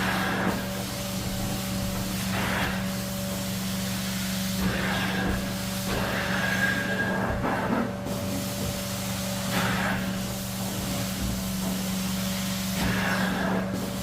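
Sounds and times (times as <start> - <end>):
carpet cleaning machine hum: 0.0 - 14.0
spray and suction hiss: 0.0 - 14.0.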